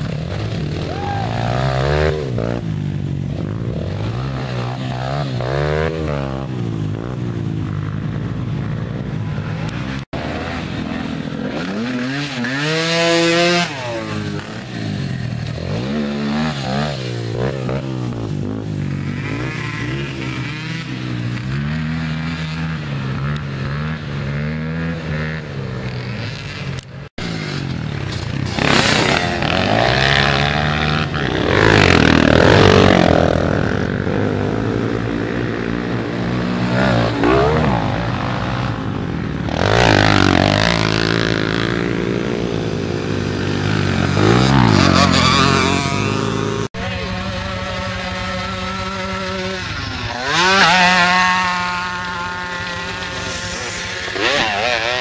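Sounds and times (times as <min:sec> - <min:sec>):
quad engines revving: 0:00.0 - 0:55.0.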